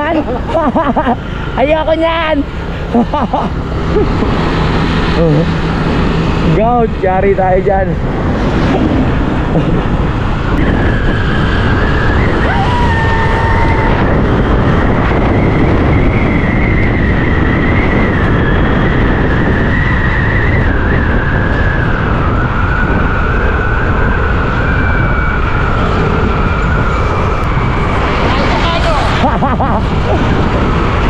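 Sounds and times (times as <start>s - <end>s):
motorcycle engine whine: 0.0s - 31.0s
wind rush on microphone: 0.0s - 31.0s.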